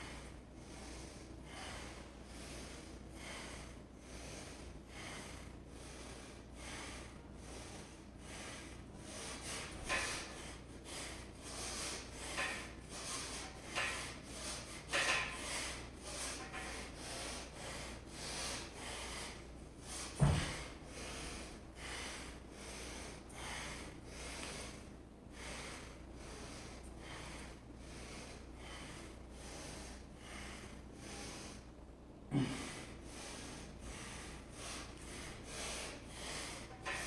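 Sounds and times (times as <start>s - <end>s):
person breathing hard: 0.0s - 37.0s.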